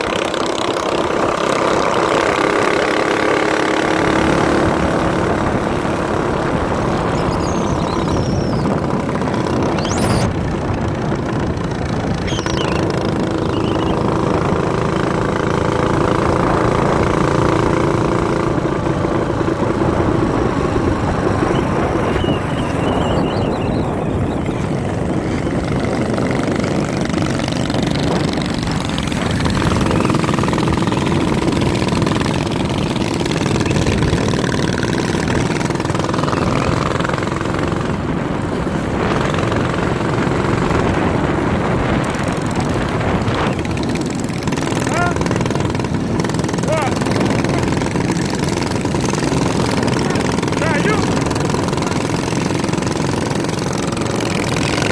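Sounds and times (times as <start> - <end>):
minibike engine revving: 0.0 - 54.9.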